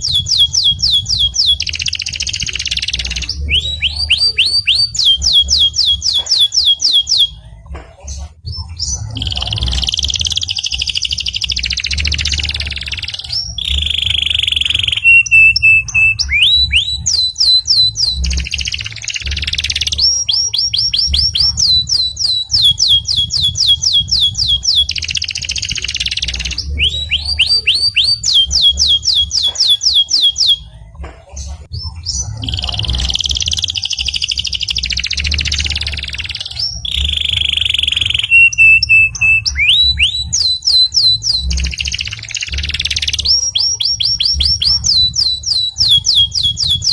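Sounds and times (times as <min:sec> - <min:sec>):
canary singing trills and whistles: 0:00.0 - 0:46.9.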